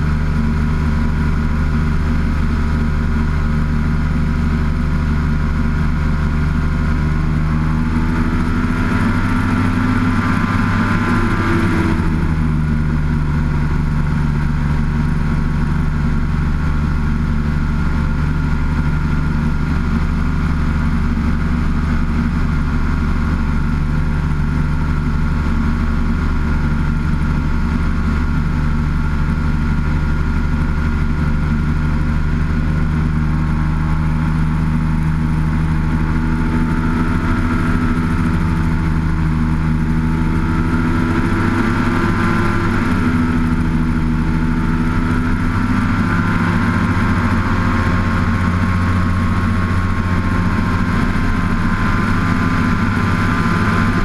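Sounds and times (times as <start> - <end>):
light aircraft engine: 0.0 - 54.0.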